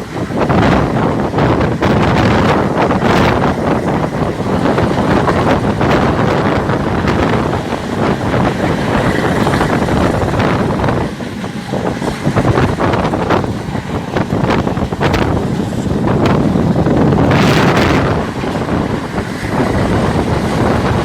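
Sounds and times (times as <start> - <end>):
moving train running noise: 0.0 - 21.0
wind buffeting microphone: 0.0 - 21.0.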